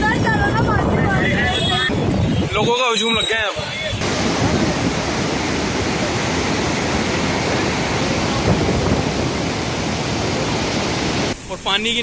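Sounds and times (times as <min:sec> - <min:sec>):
water rushing through gates: 0:01.2 - 0:11.6.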